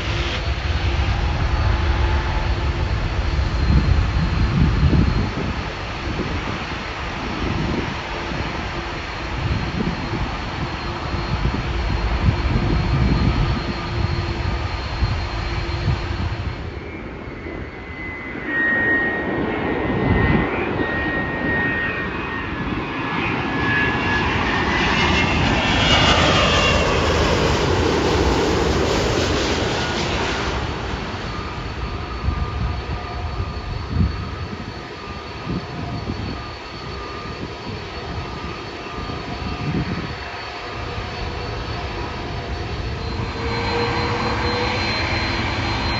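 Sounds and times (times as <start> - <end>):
jet airliner engines passing: 0.0 - 45.9.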